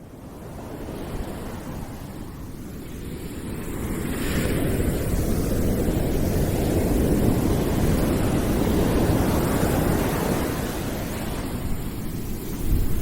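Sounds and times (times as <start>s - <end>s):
low surf-like rushing noise: 0.0s - 13.0s.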